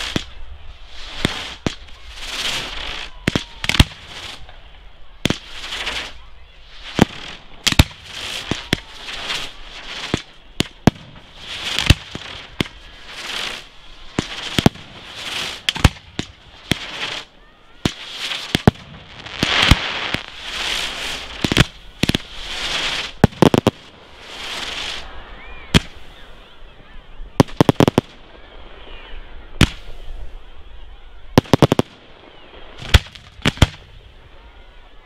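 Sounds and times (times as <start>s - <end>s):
firework bangs: 0.0s - 4.6s, 5.2s - 26.2s, 27.4s - 28.4s, 29.6s - 30.2s, 31.3s - 34.5s
fireworks hissing: 0.0s - 26.6s, 27.3s - 30.5s, 31.3s - 35.0s.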